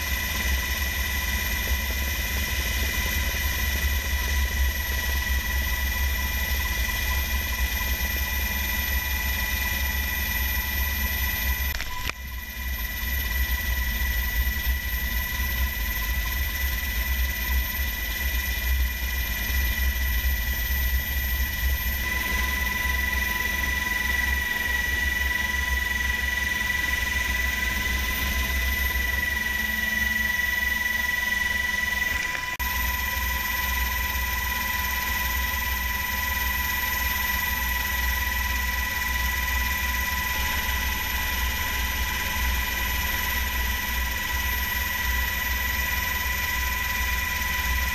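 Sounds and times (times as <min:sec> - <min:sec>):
helicopter rotor and turbine drone: 0:00.0 - 0:47.9
high whine: 0:00.0 - 0:47.9.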